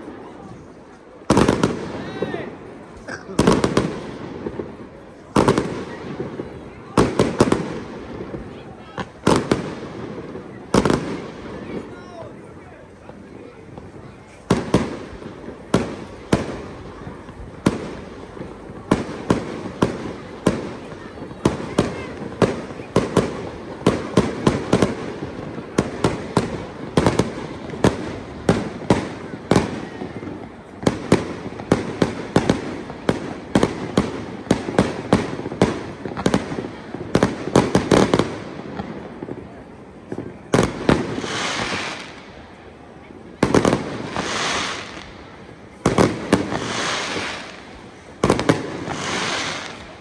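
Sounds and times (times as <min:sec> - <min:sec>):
fireworks bangs: 0:00.0 - 0:50.0
fireworks crackling: 0:00.0 - 0:50.0.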